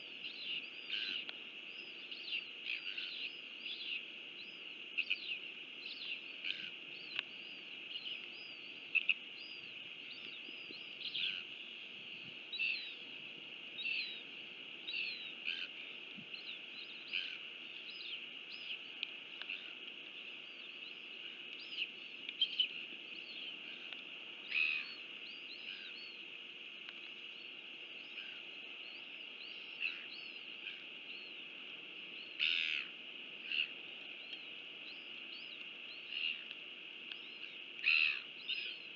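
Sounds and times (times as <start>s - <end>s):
small birds chirping: 0.0s - 38.9s
steady high hiss: 0.0s - 38.9s.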